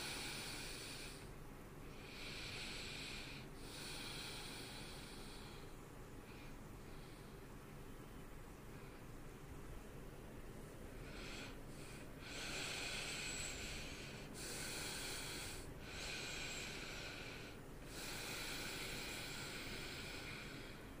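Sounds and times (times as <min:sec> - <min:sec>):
man breathing heavily through nose: 0:00.0 - 0:07.6, 0:10.7 - 0:21.0.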